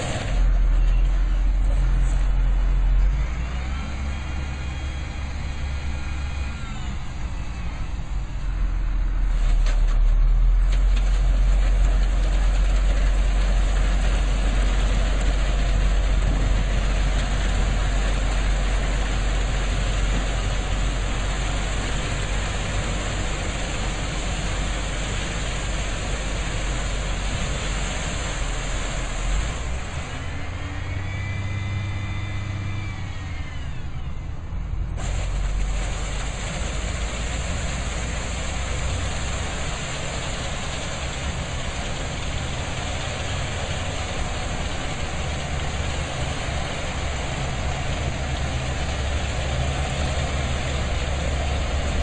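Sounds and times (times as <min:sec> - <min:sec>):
truck engine running: 0:00.0 - 0:52.0.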